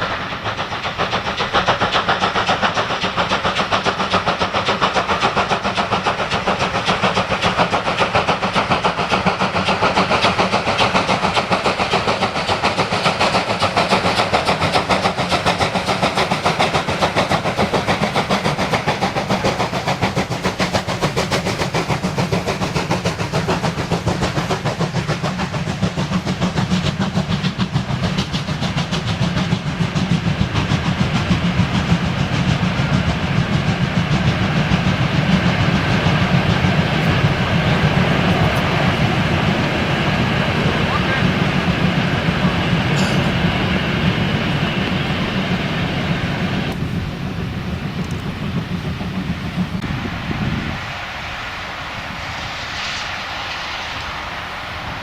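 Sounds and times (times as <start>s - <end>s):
rail noise: 0.0s - 55.0s
steam locomotive exhaust beats: 0.0s - 55.0s.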